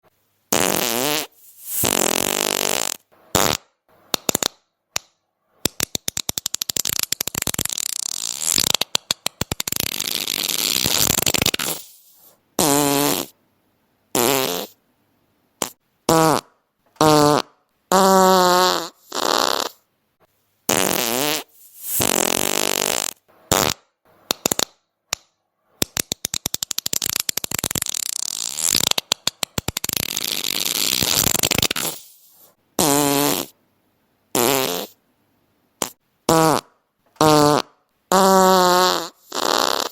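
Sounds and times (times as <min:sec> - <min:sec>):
fart sounds: 0:00.5 - 0:04.6, 0:05.7 - 0:13.4, 0:14.1 - 0:14.8, 0:15.6 - 0:19.9, 0:20.7 - 0:24.8, 0:25.8 - 0:33.6, 0:34.3 - 0:35.0, 0:35.8 - 0:39.9.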